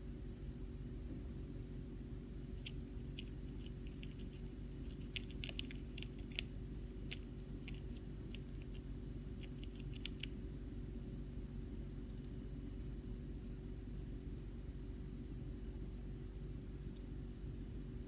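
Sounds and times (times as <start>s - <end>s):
hamster chewing crunches: 0.0s - 18.0s
steady low hum: 0.0s - 18.0s.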